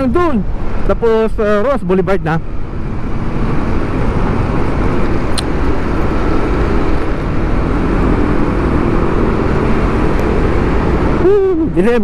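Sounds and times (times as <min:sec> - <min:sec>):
surrounding cars: 0:00.0 - 0:12.0.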